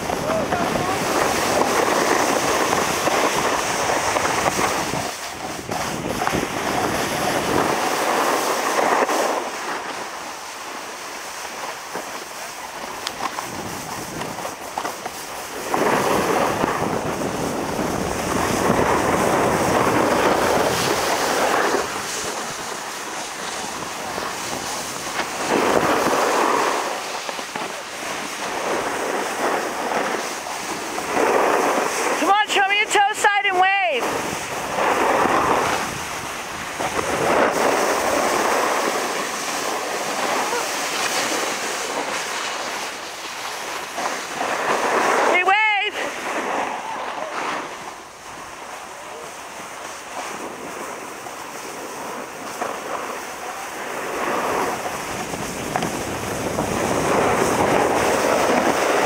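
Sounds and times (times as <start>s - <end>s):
wind on microphone: 0.0s - 10.0s, 12.8s - 59.0s
snowboards scraping over snow: 0.0s - 59.0s.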